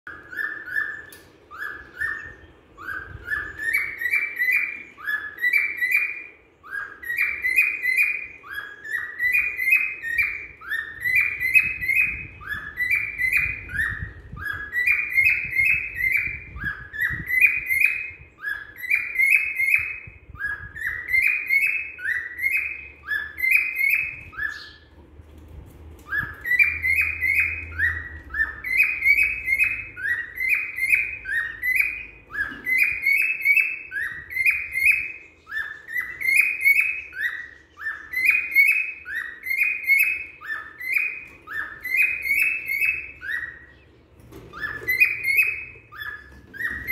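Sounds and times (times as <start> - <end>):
cockatiel chirping: 0.1 - 25.0, 26.0 - 46.9.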